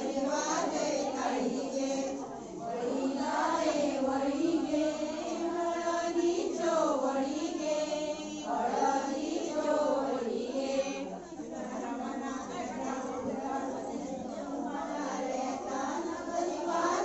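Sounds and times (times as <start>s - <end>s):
women singing folk song: 0.0s - 11.2s, 11.8s - 17.0s.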